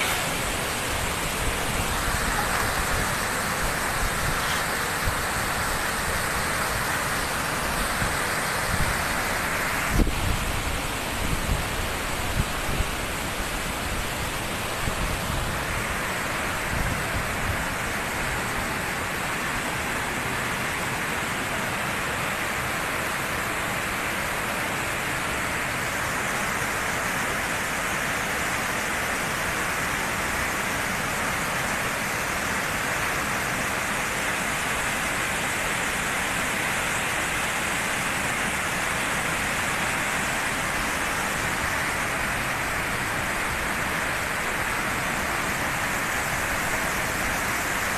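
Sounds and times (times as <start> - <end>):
rushing water pouring over edge: 0.0 - 47.9.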